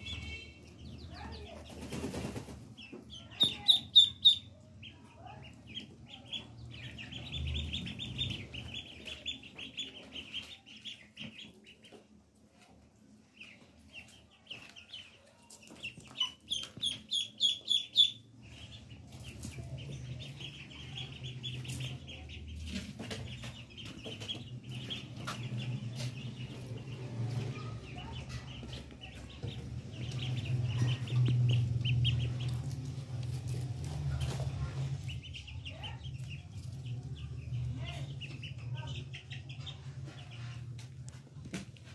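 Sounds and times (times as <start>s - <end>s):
ducklings peeping: 0.0s - 41.9s.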